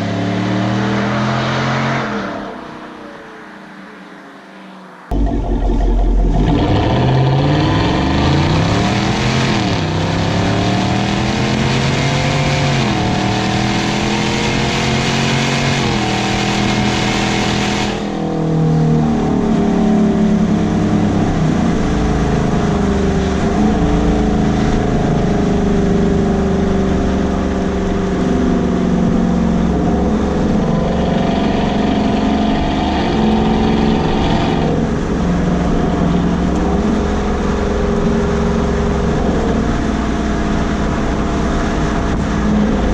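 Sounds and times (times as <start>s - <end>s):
truck exhaust accelerating: 5.1s - 42.9s.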